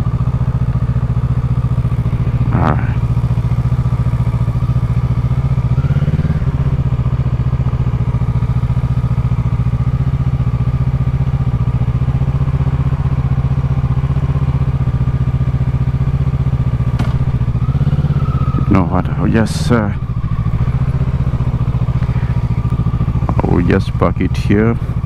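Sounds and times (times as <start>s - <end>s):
engine revving: 0.0s - 25.0s
motorcycle engine idling: 0.0s - 25.0s.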